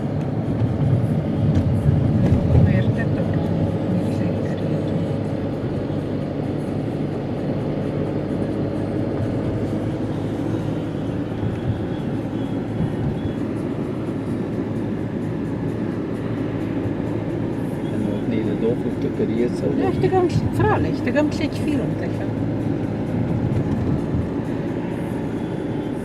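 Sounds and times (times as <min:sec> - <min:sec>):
car cabin tyre and engine rumble: 0:00.0 - 0:26.0.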